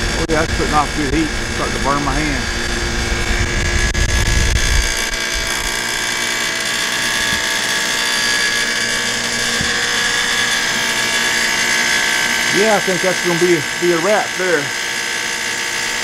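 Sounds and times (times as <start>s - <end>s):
heater buzzing: 0.0s - 16.0s.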